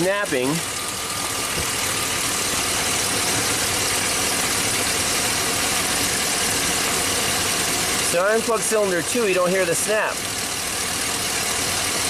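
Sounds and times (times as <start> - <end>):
engine idling with misfire: 0.0 - 12.0.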